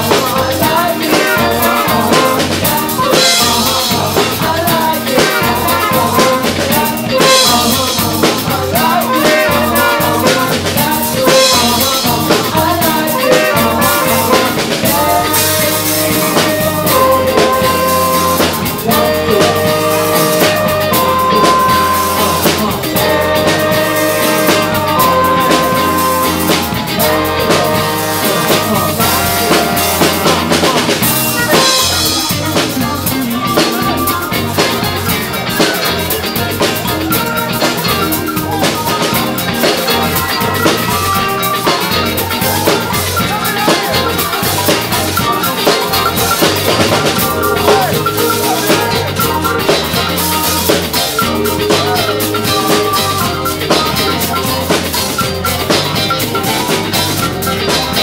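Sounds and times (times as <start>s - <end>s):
drum kit beat: 0.0s - 58.0s
live band playing: 0.0s - 58.0s.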